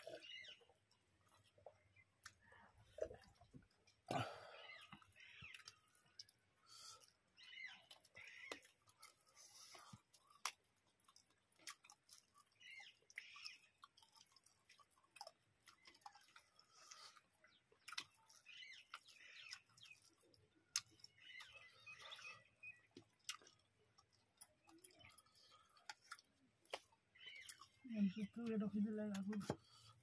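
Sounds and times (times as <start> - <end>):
chewing and lip smacks: 0.0 - 4.1, 4.7 - 27.8.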